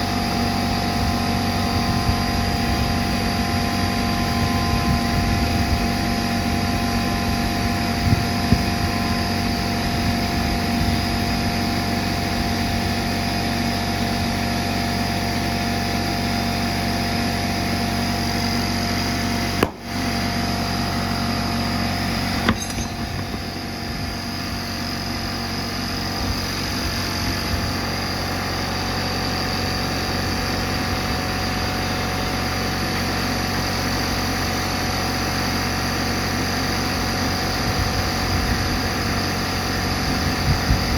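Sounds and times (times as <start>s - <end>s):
machine humming with high whine: 0.0s - 40.9s.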